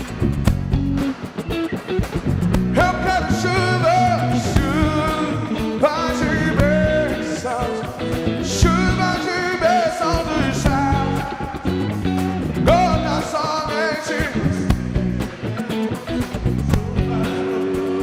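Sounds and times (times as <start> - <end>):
worship band playing: 0.0 - 18.0
person singing melody: 2.7 - 18.0.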